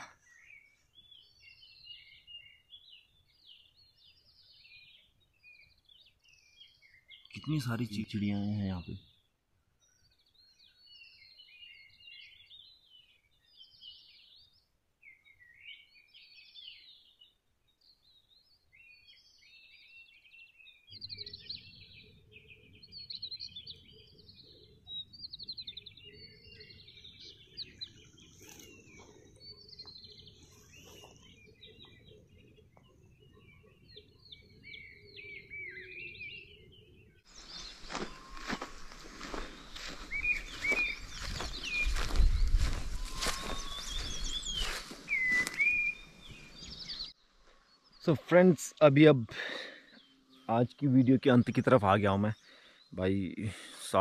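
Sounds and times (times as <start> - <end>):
small birds chirping and singing: 0.0 - 54.0.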